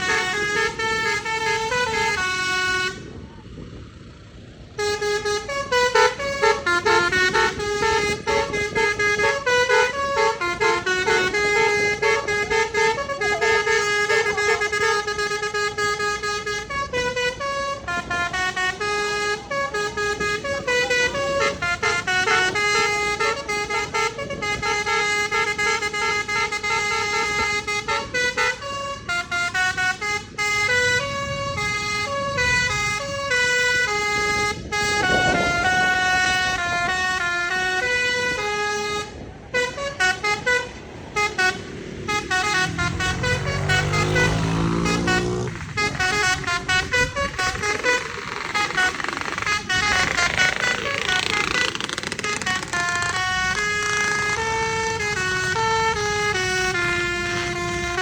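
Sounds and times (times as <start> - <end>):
musical air horns melody: 0.0 - 3.2, 4.8 - 58.0.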